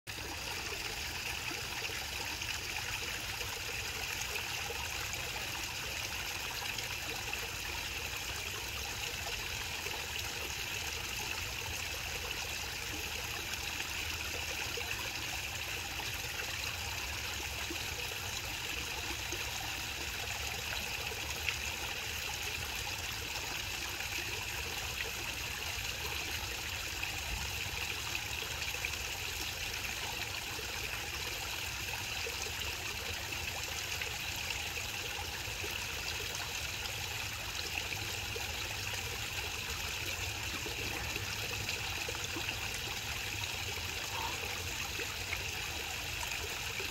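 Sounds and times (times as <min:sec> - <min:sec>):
waterfall trickling and splashing: 0:00.1 - 0:46.9.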